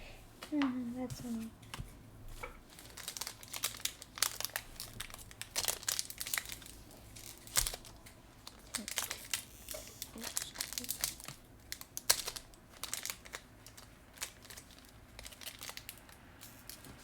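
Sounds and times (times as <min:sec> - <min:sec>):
foil wrapper crinkling: 0:02.6 - 0:17.0.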